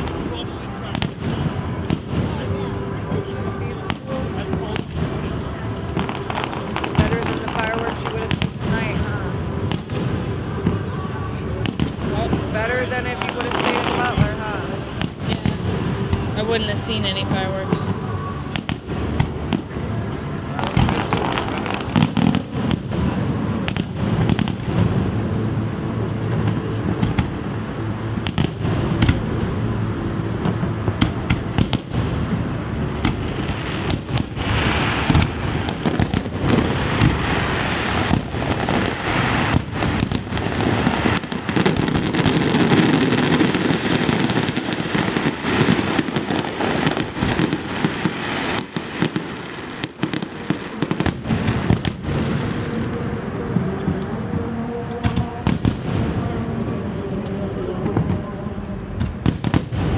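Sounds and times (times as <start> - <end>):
continuous fireworks rumble: 0.0 - 59.9
fireworks bangs: 0.0 - 59.9.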